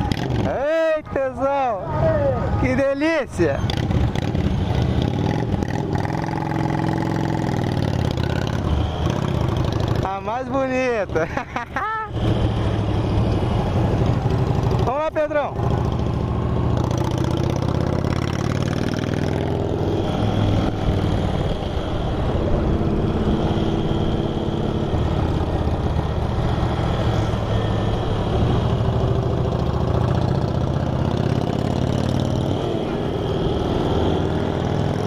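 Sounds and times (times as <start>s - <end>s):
motorcycle engines droning: 0.0s - 35.0s.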